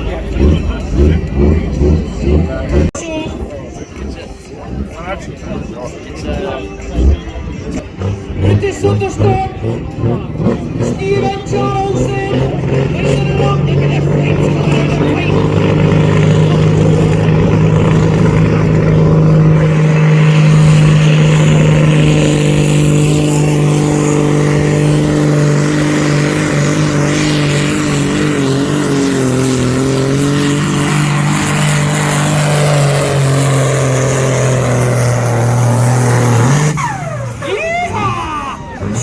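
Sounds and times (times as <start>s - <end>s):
tractor engine high-revving: 0.0s - 3.0s, 3.9s - 39.0s.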